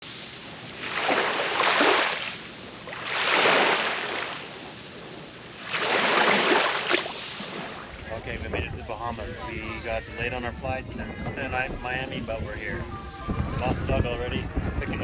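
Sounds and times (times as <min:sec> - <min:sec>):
waves washing in: 0:00.0 - 0:15.0.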